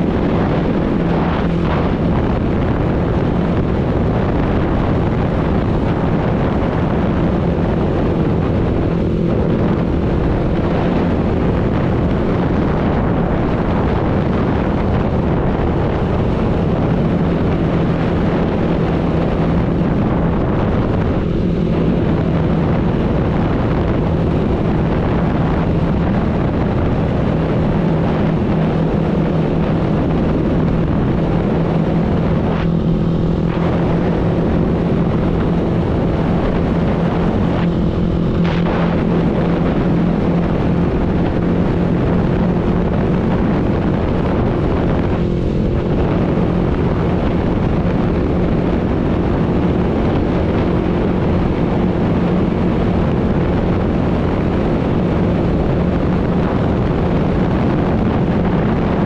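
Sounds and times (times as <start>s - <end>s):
motorbike engine drone: 0.0s - 59.0s
road noise: 0.0s - 59.0s
wind rushing on microphone: 0.0s - 59.0s.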